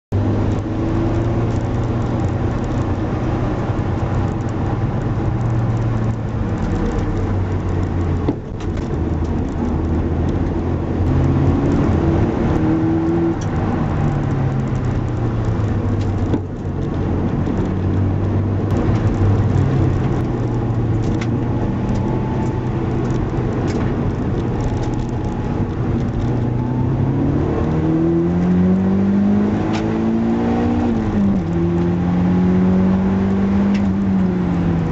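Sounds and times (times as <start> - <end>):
car engine revving: 0.1 - 34.9.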